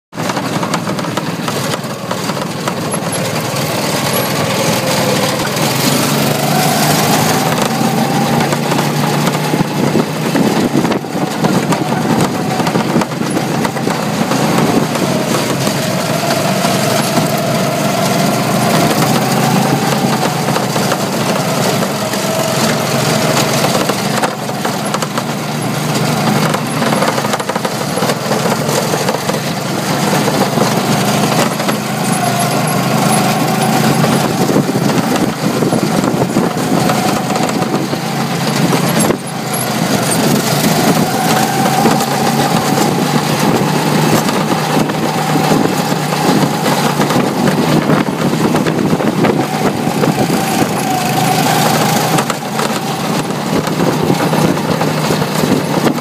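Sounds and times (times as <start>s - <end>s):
go-kart engine whining: 0.1s - 56.0s.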